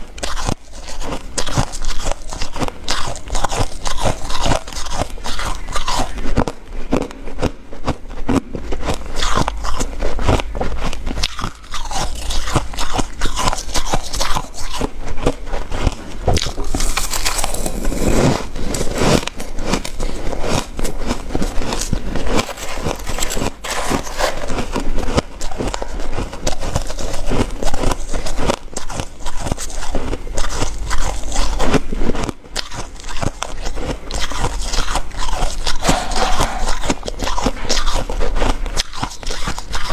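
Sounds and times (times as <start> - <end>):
ice crunching when chewed: 0.0 - 39.9.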